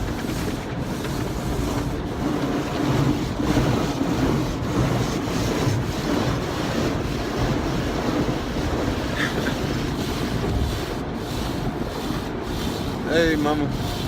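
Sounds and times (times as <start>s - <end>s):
car wash water spray and machinery: 0.0s - 14.0s.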